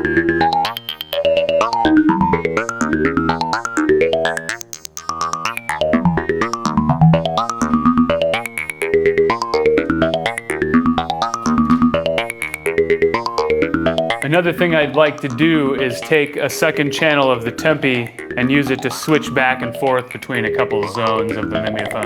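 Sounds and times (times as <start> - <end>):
synthesizer plucked notes: 0.0 - 22.0.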